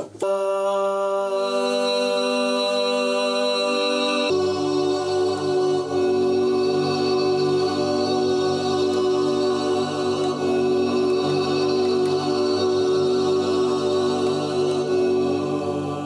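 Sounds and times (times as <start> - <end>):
layered sung vocal chord: 0.0 - 16.0.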